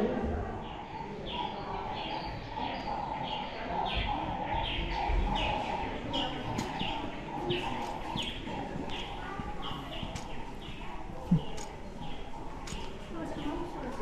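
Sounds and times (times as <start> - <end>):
low background noise: 0.0 - 14.0
bird chirping: 0.6 - 14.0.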